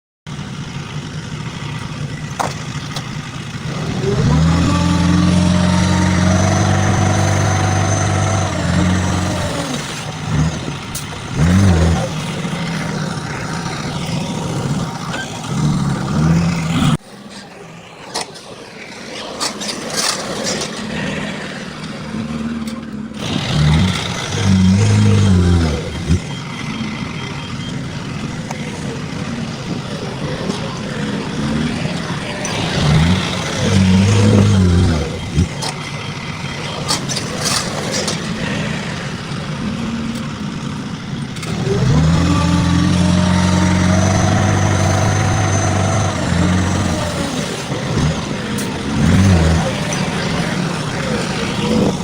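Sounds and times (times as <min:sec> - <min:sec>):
diesel engines revving: 0:00.3 - 0:52.0.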